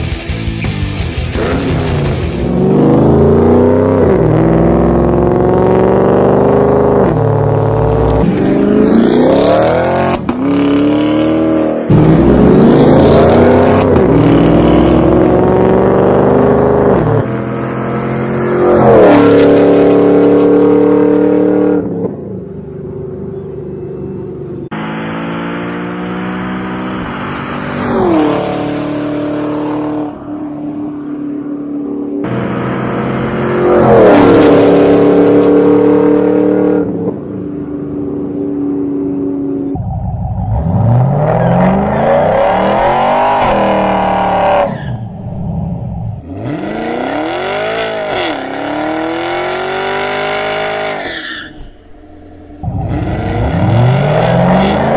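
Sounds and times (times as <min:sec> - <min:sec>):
loud car exhaust accelerating by: 0:01.3 - 0:51.0, 0:51.7 - 0:54.9.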